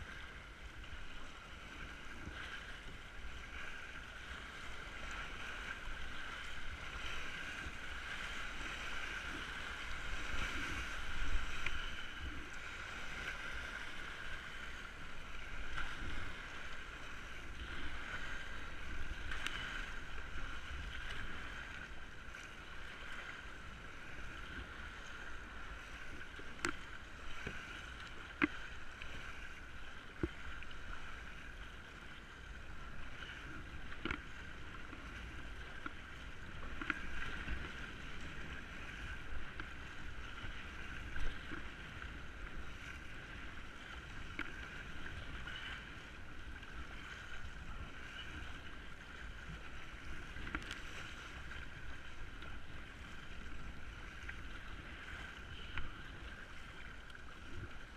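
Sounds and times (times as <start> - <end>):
water noise: 0.0 - 57.9.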